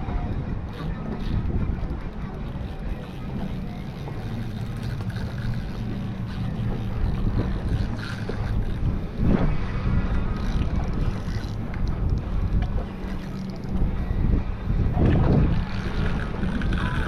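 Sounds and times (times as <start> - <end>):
low hum: 0.0 - 17.0
wind buffeting microphone: 0.0 - 17.0.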